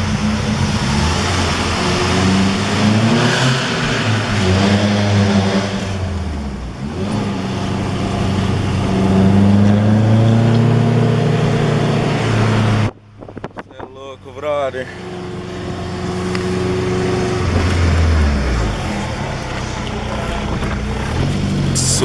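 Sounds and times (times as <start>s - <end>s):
car engine under load: 0.0s - 22.0s.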